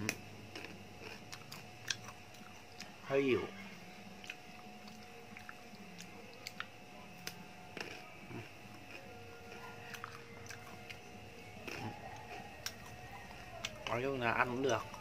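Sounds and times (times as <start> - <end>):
chewing crunchy snacks: 0.0 - 15.0.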